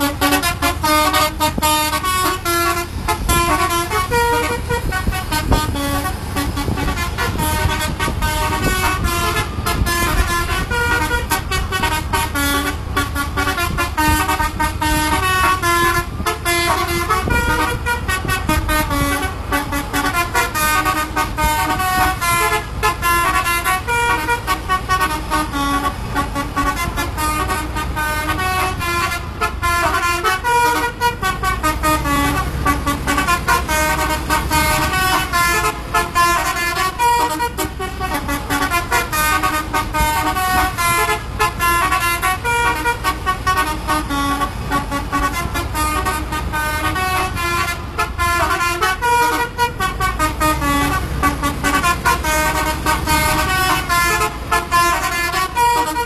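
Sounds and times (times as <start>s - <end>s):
bus and motorcycle engines: 0.0s - 56.0s
bus horn playing melodies: 0.0s - 56.0s.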